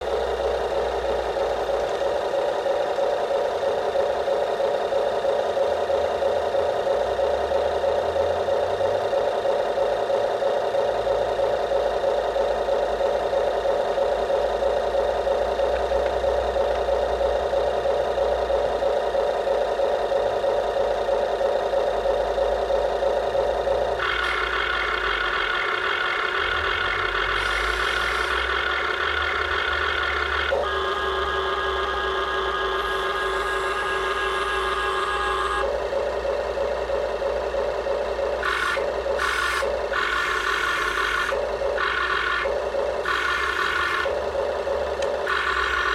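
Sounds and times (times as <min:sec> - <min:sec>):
high-pitched motor whine: 0:00.0 - 0:45.9
toy backhoe pulsing hum: 0:00.0 - 0:45.9.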